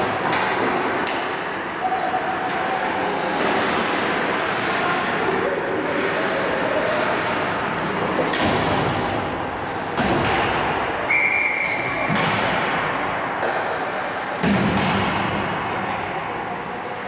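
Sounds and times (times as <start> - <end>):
ice rink noise: 0.0 - 17.0.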